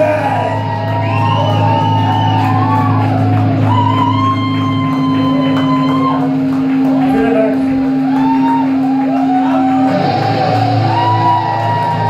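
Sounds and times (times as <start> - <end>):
live rock band playing loudly: 0.0 - 12.0.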